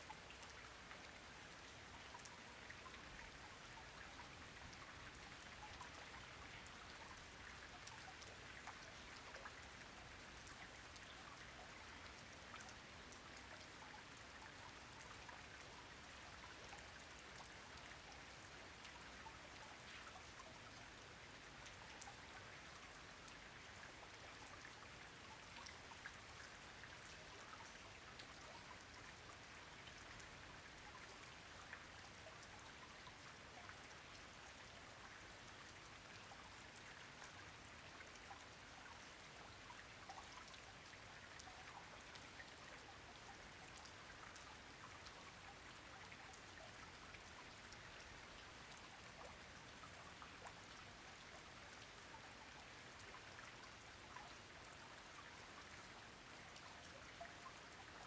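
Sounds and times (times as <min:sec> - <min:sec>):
rain falling on a pond: 0:00.0 - 0:58.0
rain drop ticks: 0:00.1 - 0:57.8.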